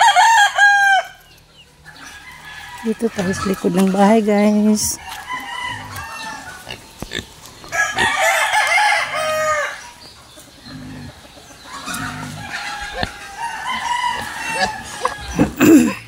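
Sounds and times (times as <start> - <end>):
chickens clucking and crowing: 0.0 - 16.0.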